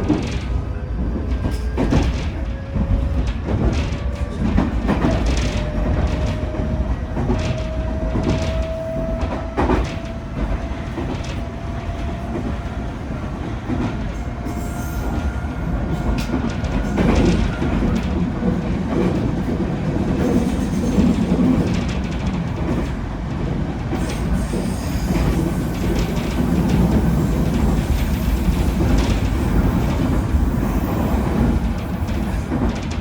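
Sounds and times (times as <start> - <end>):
rail joints clacking: 0.0 - 33.0.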